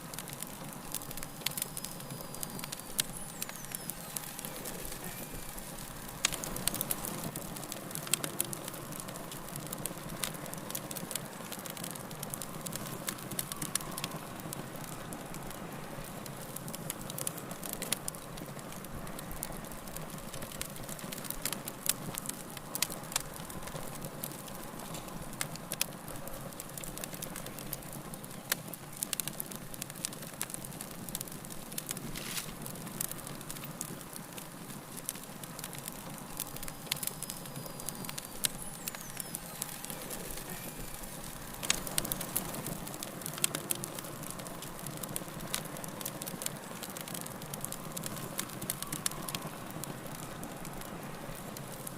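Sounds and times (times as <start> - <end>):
fire crackling and popping: 0.0 - 51.9
fire hissing: 0.0 - 51.9.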